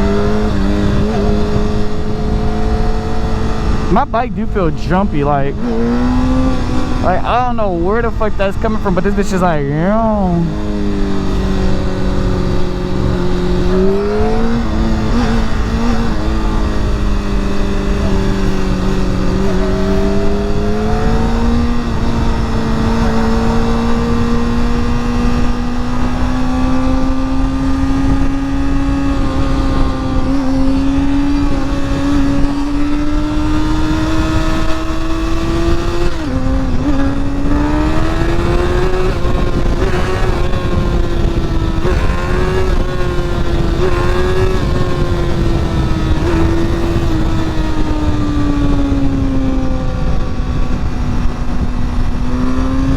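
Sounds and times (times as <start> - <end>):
motorcycle engine accelerating: 0.0 - 52.9
wind rush on microphone: 0.0 - 52.9.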